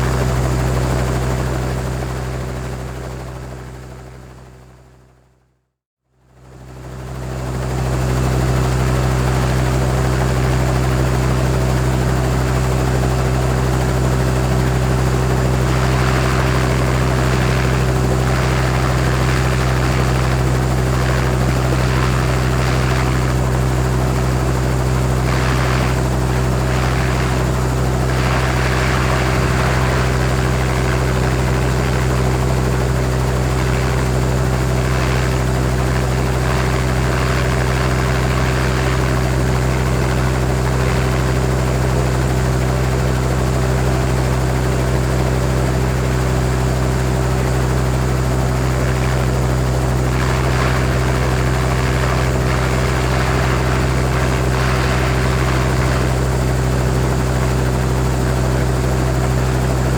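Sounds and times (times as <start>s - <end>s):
helicopter idling: 0.0s - 4.4s, 6.5s - 59.9s.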